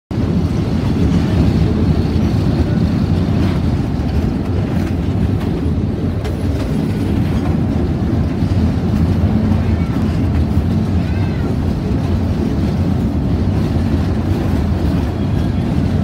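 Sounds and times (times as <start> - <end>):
diesel train rumbling: 0.1 - 16.0.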